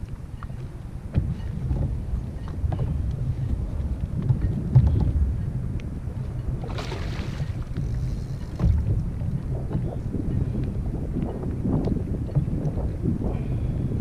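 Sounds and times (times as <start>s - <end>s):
water lapping at kayak: 0.0s - 14.0s
wind buffeting microphone: 0.0s - 14.0s.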